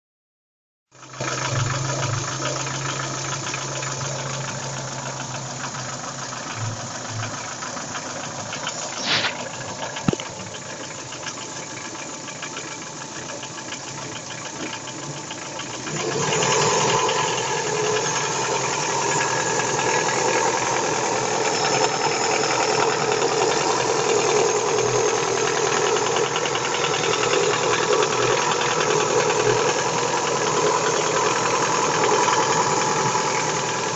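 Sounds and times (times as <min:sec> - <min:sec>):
car engine running with knock: 0:00.9 - 0:33.9.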